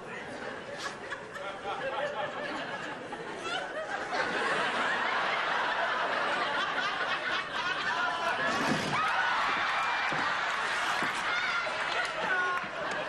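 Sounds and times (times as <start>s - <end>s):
audience laughing: 0.5s - 9.0s, 9.7s - 13.0s.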